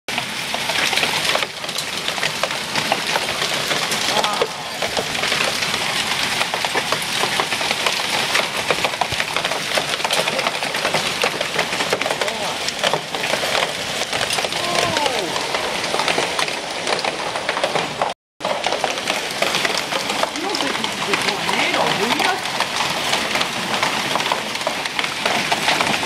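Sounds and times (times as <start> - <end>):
raindrops spattering on surfaces: 0.1 - 26.0
torrential rain hissing: 0.1 - 26.0.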